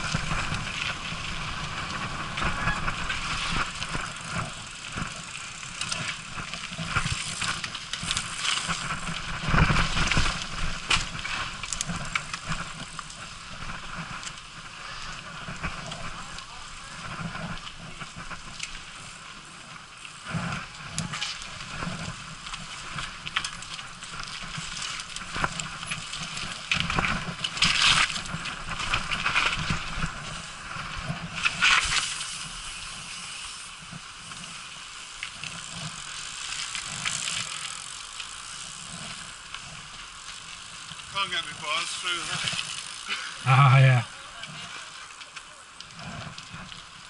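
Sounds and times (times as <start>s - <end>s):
bike rattling over bumps: 0.0s - 47.0s
bike tyres rolling on dirt: 0.0s - 47.0s.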